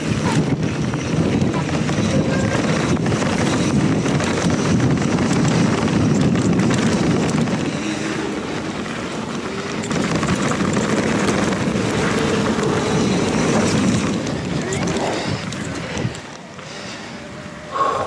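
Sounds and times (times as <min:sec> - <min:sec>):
bike tyres on trail: 0:00.0 - 0:18.0
wind rumbling over microphone: 0:00.0 - 0:18.0.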